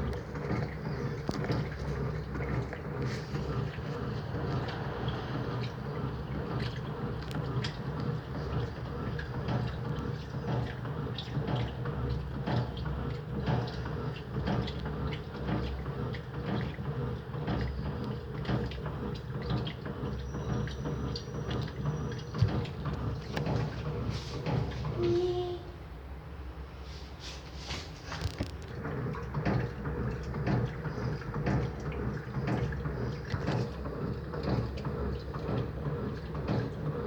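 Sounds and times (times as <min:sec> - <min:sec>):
small knocks and splashes: 0:00.0 - 0:24.9, 0:27.7 - 0:37.0
washing machine motor hum: 0:00.0 - 0:37.0
water sloshing: 0:00.0 - 0:37.0.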